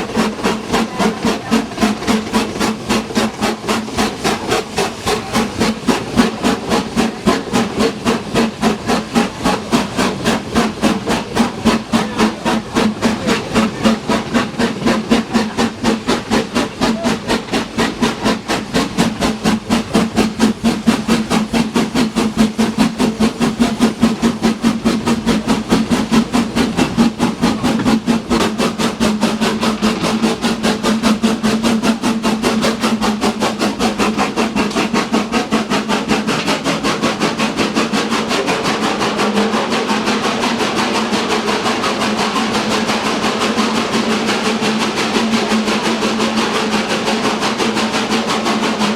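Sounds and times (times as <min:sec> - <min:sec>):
steam locomotive exhaust beating: 0:00.0 - 0:48.9.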